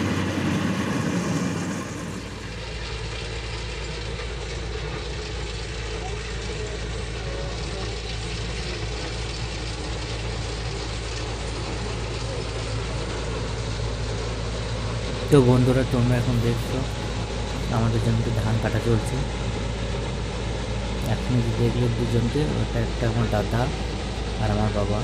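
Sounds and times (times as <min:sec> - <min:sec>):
combine harvester droning: 0:00.0 - 0:25.0.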